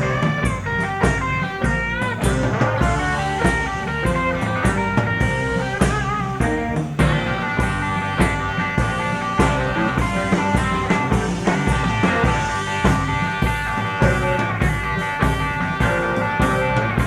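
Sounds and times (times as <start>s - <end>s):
bass guitar: 0.0s - 17.0s
drum kit steady beat: 0.0s - 17.0s
lead electric guitar bent notes: 0.0s - 17.0s.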